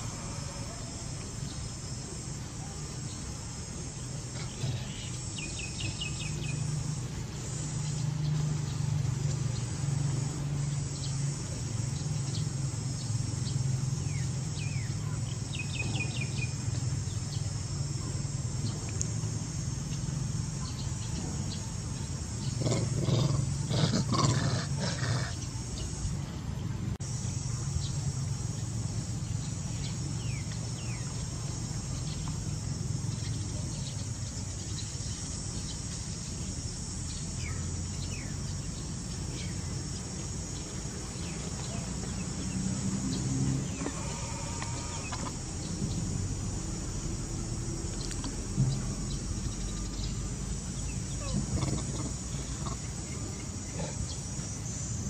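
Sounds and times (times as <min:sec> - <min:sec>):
crickets chirring: 0:00.0 - 0:55.0
low continuous rumble: 0:00.0 - 0:55.0.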